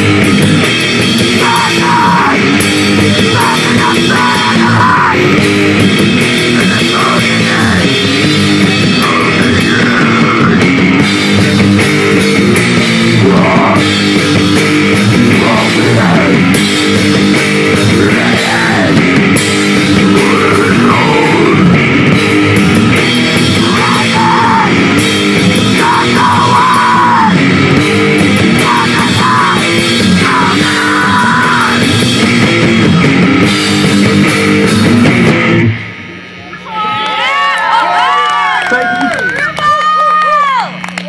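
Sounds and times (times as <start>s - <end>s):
drum kit: 0.0s - 36.2s
melodic guitar line bending: 0.0s - 36.6s
electric guitars: 0.0s - 41.0s.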